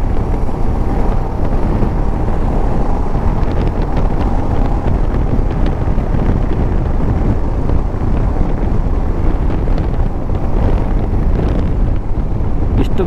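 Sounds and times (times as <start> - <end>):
motorcycle engine running: 0.0 - 12.8
wind blowing over microphone: 0.0 - 13.0.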